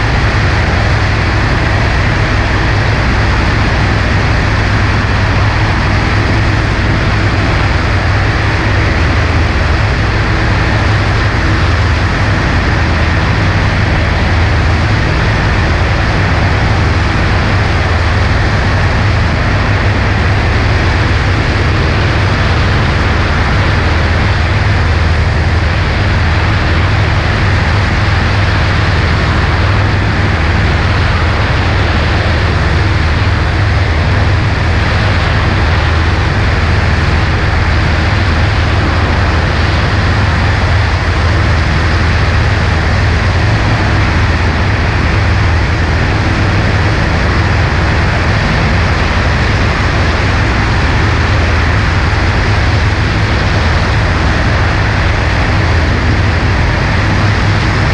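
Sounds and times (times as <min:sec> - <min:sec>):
propeller plane engine running: 0:00.0 - 0:57.9.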